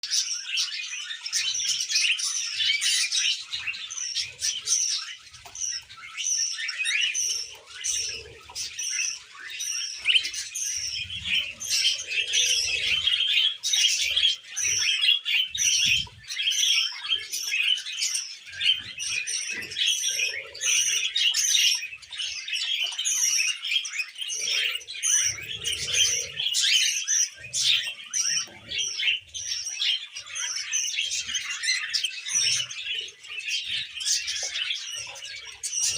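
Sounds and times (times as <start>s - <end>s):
budgerigar chirping and chattering: 0.0s - 35.9s.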